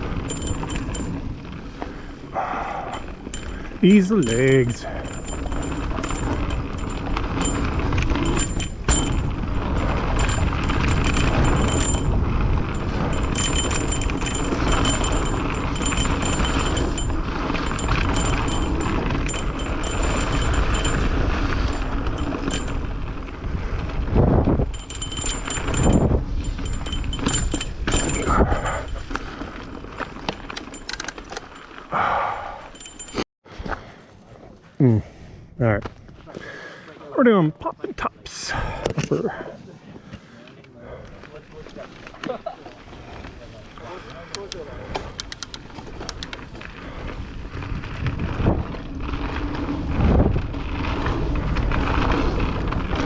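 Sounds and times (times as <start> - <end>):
bike chain and frame rattling: 0.0 - 33.3, 41.2 - 53.0
tyres and wind rumbling: 0.0 - 53.0.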